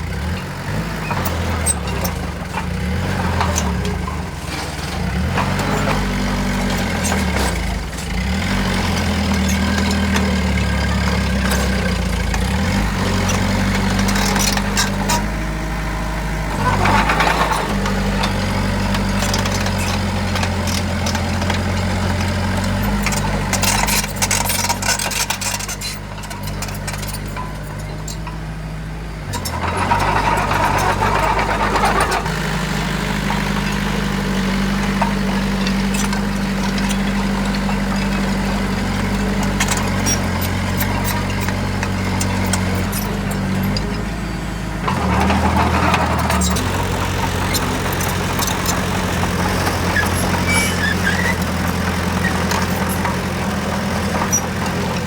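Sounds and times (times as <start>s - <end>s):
heavy diesel engine running: 0.0s - 55.0s
rattling: 1.1s - 28.6s, 29.2s - 55.0s.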